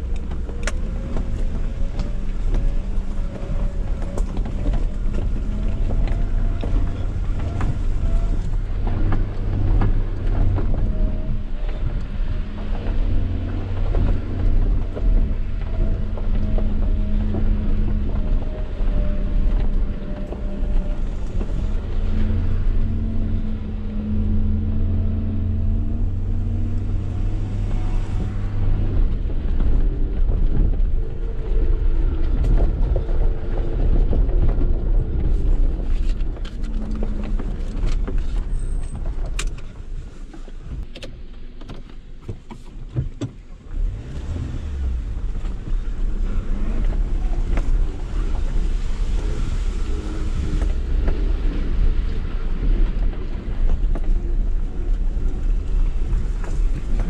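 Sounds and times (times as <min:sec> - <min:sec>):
car engine running at low speed: 0:00.0 - 0:57.0
knocks and rattles over ruts: 0:00.0 - 0:57.0.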